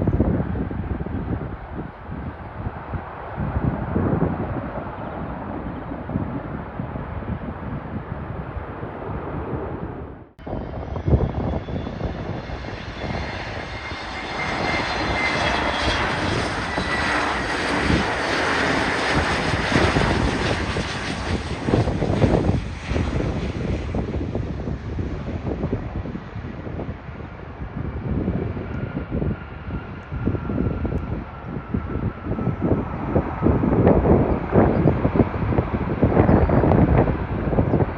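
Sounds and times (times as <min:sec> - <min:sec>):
jet engines passing overhead: 0:00.0 - 0:37.9
wind buffeting microphone: 0:00.0 - 0:37.9.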